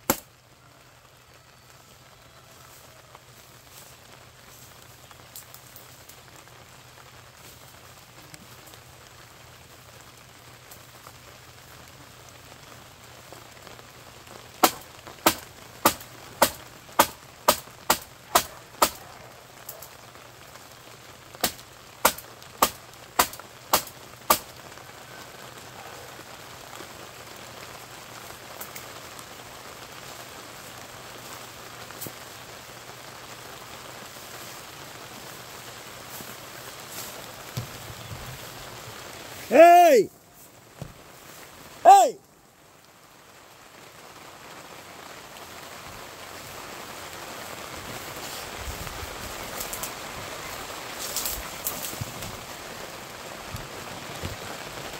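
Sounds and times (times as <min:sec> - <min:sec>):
steady hiss: 0:00.0 - 0:54.9.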